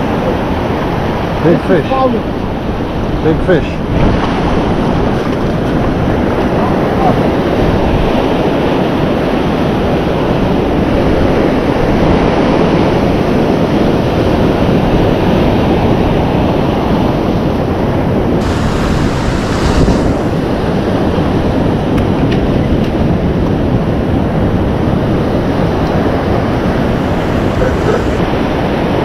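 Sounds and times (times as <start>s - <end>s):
ocean surf breaking on rocks: 0.0s - 29.0s
wind buffeting microphone: 0.0s - 29.0s.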